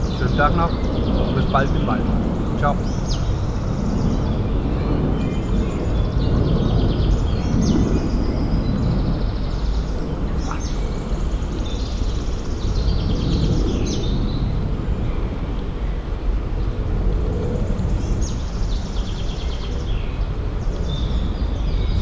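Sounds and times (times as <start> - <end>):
birds trilling: 0.0 - 22.0
steady low rumble: 0.0 - 22.0.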